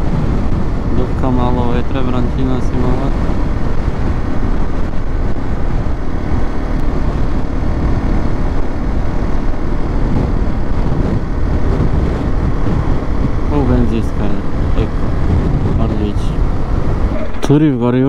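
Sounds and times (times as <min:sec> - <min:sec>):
wind and road noise: 0:00.0 - 0:18.0
motorcycle engine running: 0:01.9 - 0:17.7.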